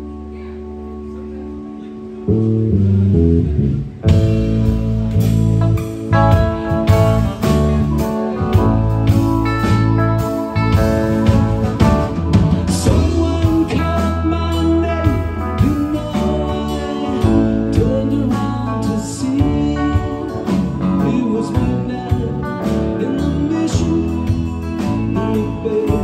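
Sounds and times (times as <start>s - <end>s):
bass guitar: 0.0s - 26.0s
electric guitar: 0.0s - 26.0s
electric keyboard: 0.0s - 26.0s
drum kit: 2.8s - 26.0s.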